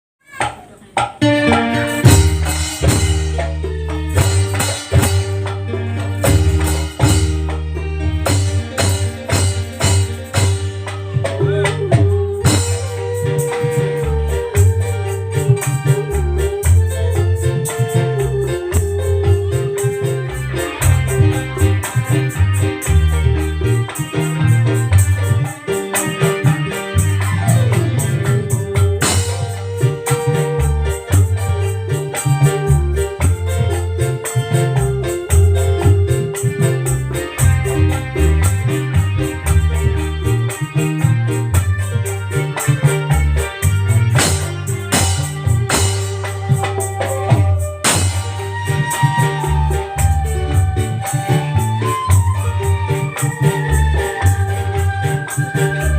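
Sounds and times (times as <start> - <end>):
drum beat: 0.2 - 55.9
shaker percussion: 0.2 - 55.9
keyboard playing organ-like melody: 0.7 - 55.9
heavy bass line: 1.2 - 25.6, 26.2 - 55.9.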